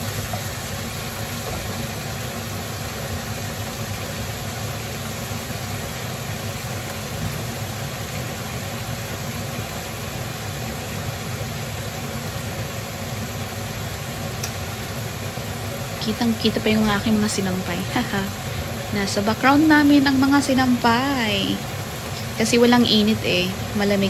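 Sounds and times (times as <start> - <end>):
chicken sizzling in hot oil: 0.0 - 24.0
steady low hum: 0.0 - 24.0.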